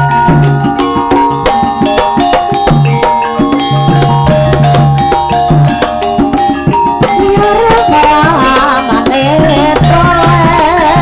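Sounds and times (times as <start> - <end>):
hand drum strokes: 0.0 - 11.0
ringing metallophone: 0.0 - 11.0
wavering melody line: 0.0 - 11.0.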